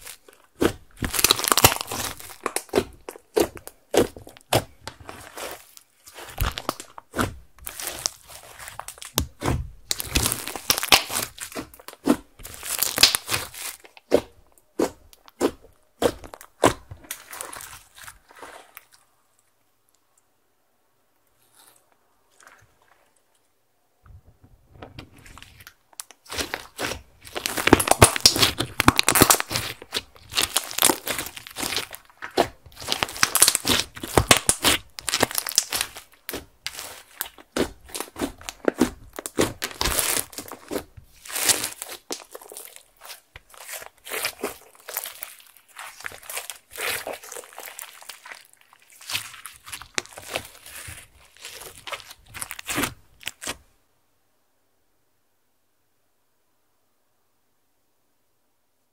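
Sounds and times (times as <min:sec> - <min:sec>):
slime crackling and popping: 0:00.0 - 0:18.9, 0:25.2 - 0:53.7.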